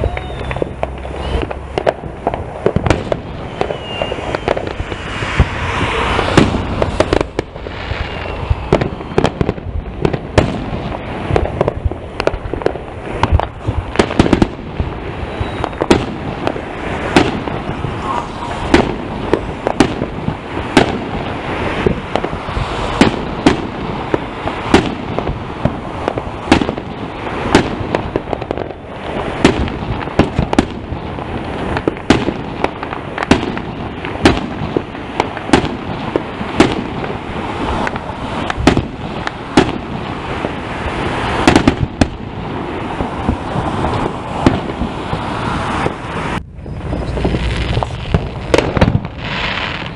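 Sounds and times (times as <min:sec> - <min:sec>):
fireworks bangs: 0:00.0 - 0:49.9.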